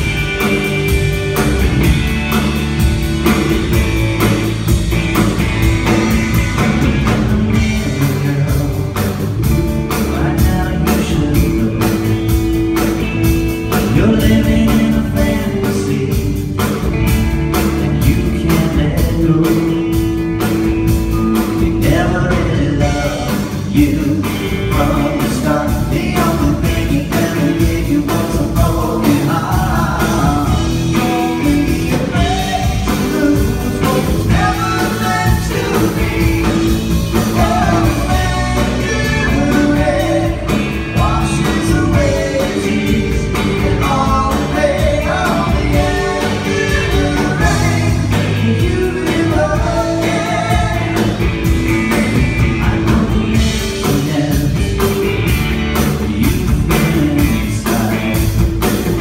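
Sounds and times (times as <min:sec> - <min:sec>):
rock band playing: 0:00.0 - 0:59.0
person singing: 0:06.8 - 0:12.4, 0:13.7 - 0:20.2, 0:21.4 - 0:55.0, 0:55.8 - 0:59.0.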